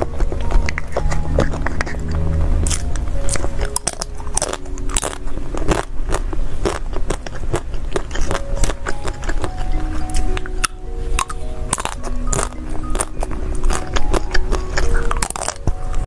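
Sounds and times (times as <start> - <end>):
biting and chewing: 0.0 - 16.0
faint background music: 0.0 - 16.0
sharp crunches and clicks: 0.0 - 16.0.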